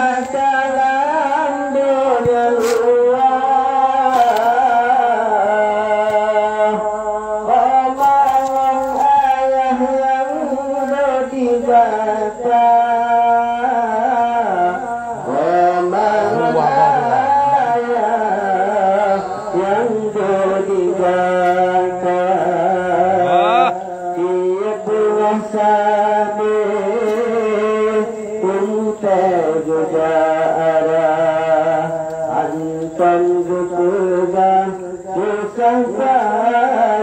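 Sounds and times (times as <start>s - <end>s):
man singing into microphone: 0.0s - 37.0s.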